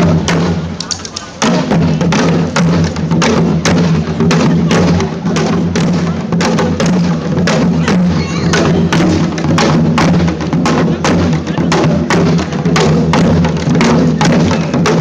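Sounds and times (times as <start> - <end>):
percussion ensemble drumming: 0.0 - 15.0.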